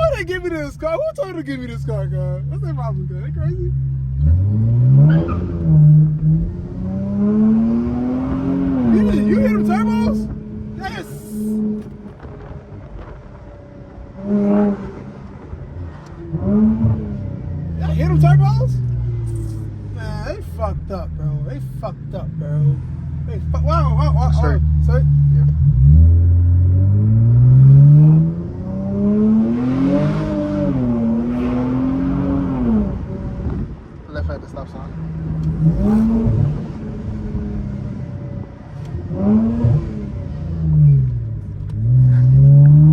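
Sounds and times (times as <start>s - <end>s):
car exhaust rumble: 0.0s - 42.9s.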